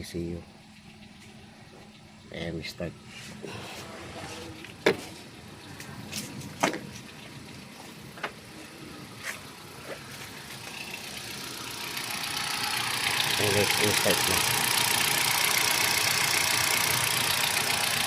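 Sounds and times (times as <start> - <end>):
car engine starting: 0.0 - 18.0.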